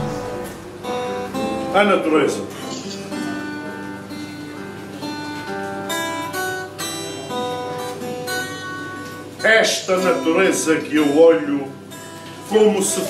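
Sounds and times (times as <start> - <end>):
acoustic guitar played softly: 0.0 - 13.0.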